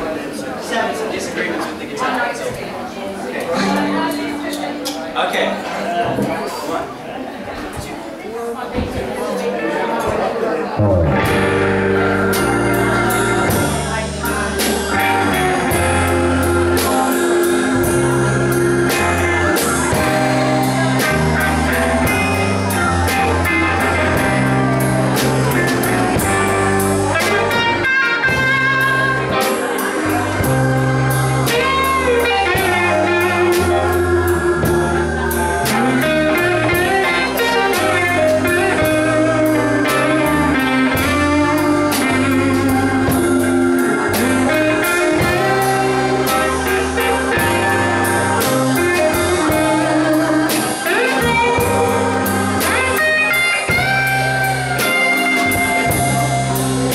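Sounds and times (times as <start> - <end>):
blues rock band playing: 3.5 - 6.2, 10.8 - 56.9
lead guitar bending notes: 3.5 - 6.3, 10.7 - 56.9.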